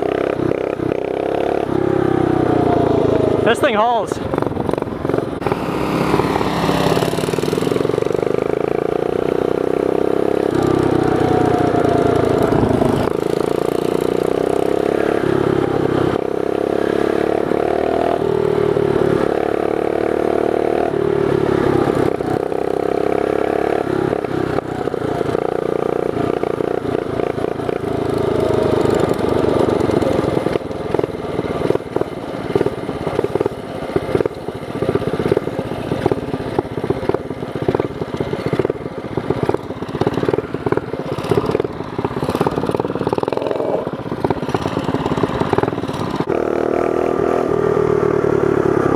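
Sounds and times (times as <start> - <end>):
mini bike engine revving: 0.0 - 48.9.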